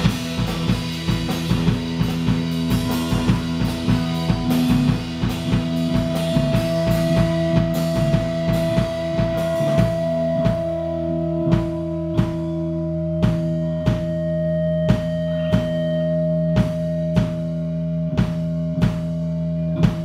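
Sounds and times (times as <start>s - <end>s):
droning guitar notes: 0.0s - 20.0s
drum hits: 0.0s - 20.0s
rock band playing: 0.0s - 20.0s.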